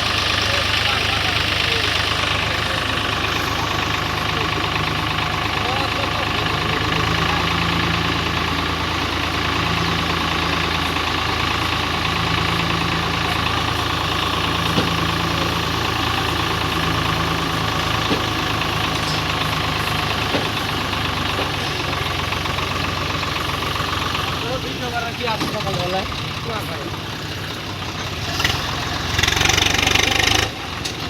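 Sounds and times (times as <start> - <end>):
tractor engine idling: 0.0 - 31.0.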